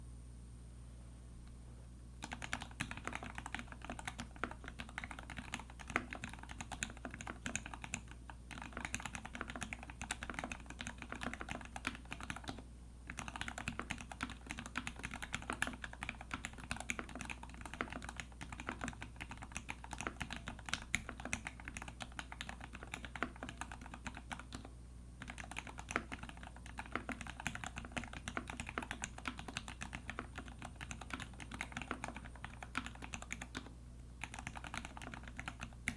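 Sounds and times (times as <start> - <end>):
mechanical keyboard typing: 2.2 - 35.9.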